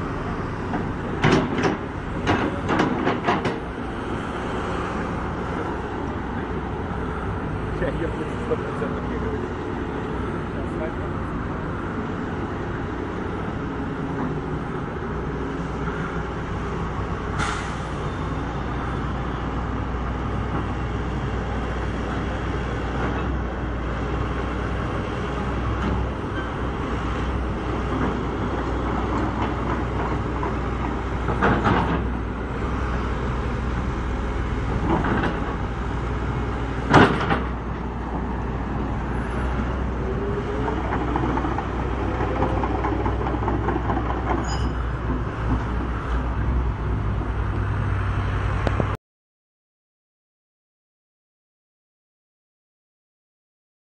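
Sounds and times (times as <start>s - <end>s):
excavator engine rumble: 0.0s - 49.0s.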